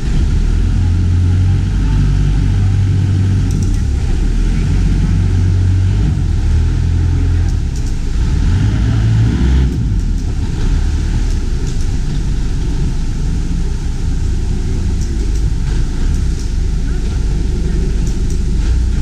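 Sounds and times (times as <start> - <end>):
motorboat engine rumbling: 0.0 - 19.0.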